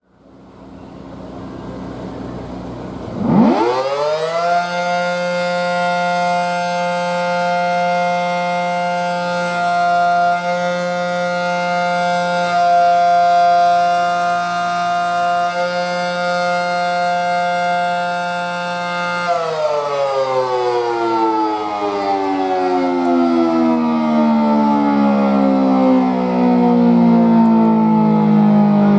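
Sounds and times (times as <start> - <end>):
tornado siren wailing: 3.1 - 28.9.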